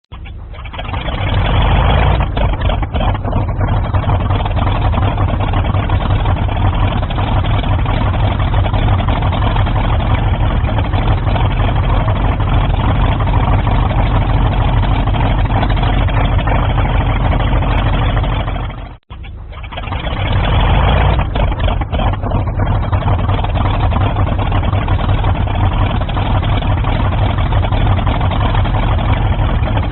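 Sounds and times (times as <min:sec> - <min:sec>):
radial piston aircraft engine: 0:00.1 - 0:29.9.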